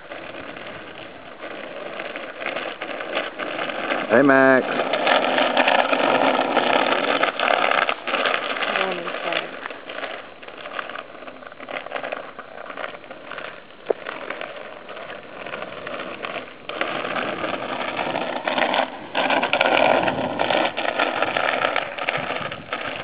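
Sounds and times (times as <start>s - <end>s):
bike wheels rattling on asphalt: 0.0s - 23.0s.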